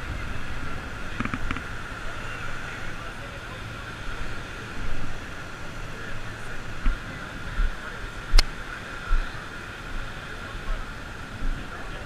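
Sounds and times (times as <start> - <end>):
beach background noise: 0.0 - 12.0
wind: 0.0 - 12.0.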